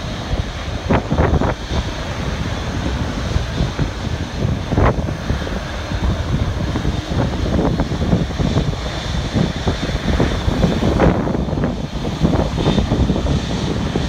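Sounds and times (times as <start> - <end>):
jet engines rumbling: 0.0 - 14.0
wind buffeting the microphone: 0.0 - 14.0.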